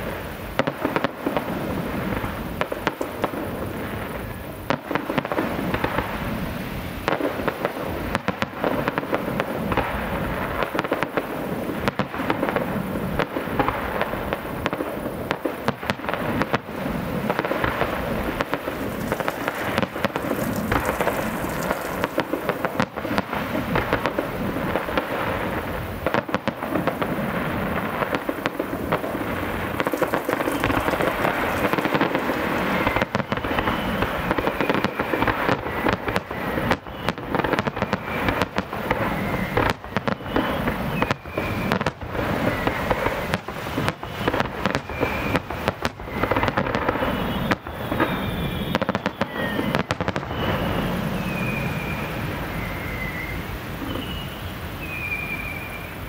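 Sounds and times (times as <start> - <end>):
fireworks bangs and crackling: 0.0 - 56.0
high firework whistles: 0.0 - 56.0.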